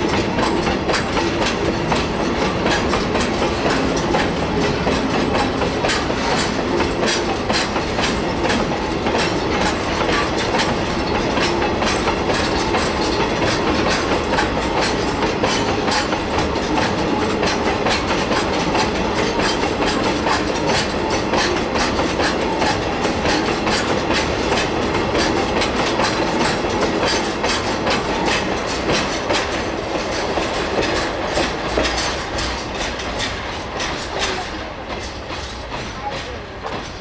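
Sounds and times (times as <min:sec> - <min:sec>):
train rumble: 0:00.0 - 0:37.0
train wheels clicking over rail joints: 0:00.0 - 0:37.0.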